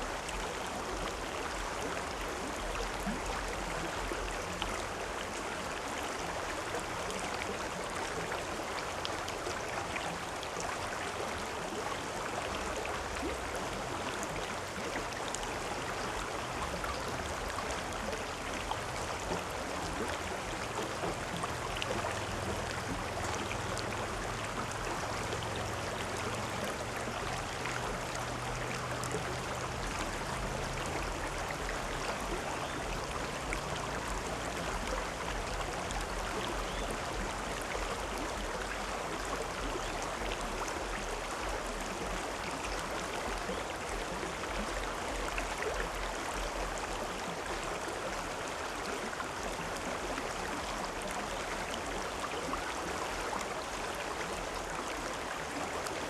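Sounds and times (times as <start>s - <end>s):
stream water babbling: 0.0s - 56.0s.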